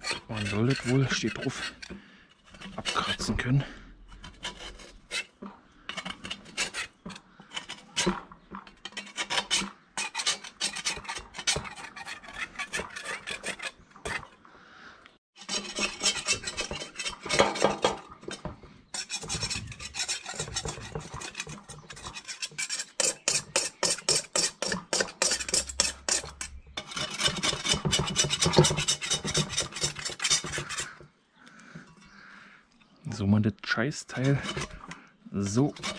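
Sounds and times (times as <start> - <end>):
scraper rasping on metal: 0.0 - 14.3, 15.4 - 31.0, 34.0 - 35.9.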